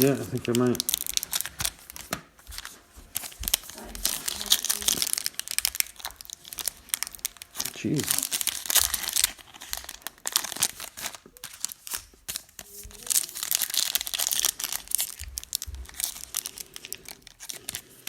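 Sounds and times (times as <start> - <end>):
wrappers crinkling and tearing: 0.0 - 18.0.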